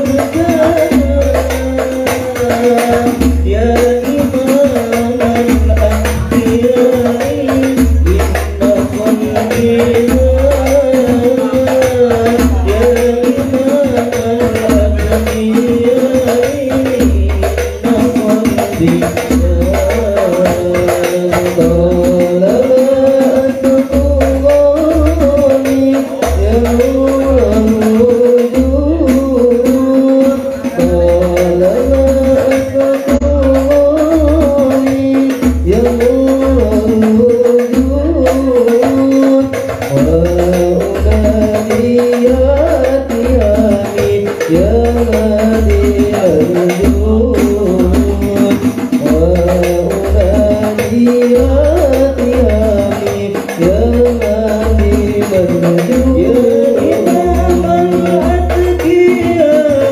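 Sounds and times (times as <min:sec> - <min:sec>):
frame drums: 0:00.0 - 0:59.9
man singing: 0:00.0 - 0:59.9.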